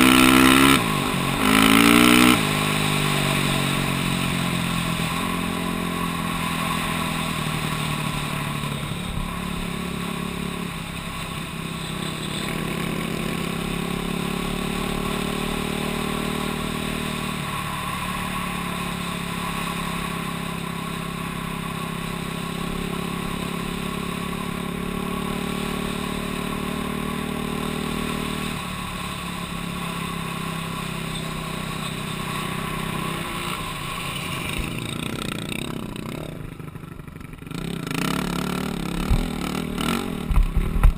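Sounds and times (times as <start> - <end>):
dirt bike engine revving: 0.0 - 36.6, 37.2 - 40.9.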